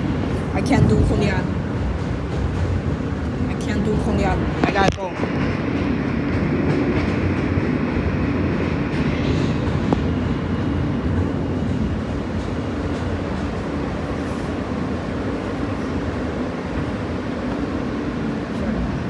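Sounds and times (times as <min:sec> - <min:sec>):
subway train rumble and hum: 0:00.0 - 0:19.0.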